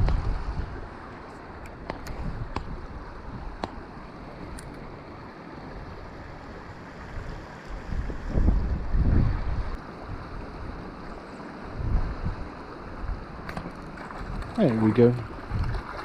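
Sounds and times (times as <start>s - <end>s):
wind buffeting microphone: 0.0s - 3.9s, 5.7s - 16.0s
creek water running: 0.0s - 16.0s.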